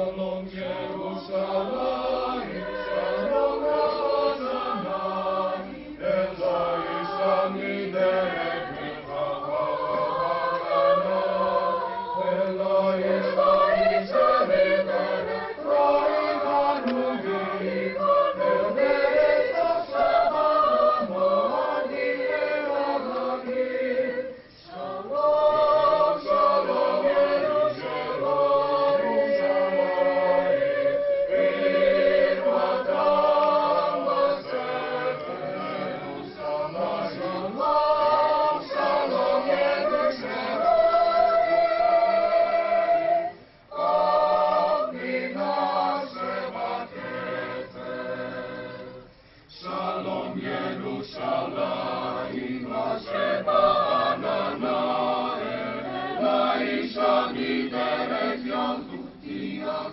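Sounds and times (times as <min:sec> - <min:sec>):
mixed choir singing held chords: 0:00.0 - 0:59.9.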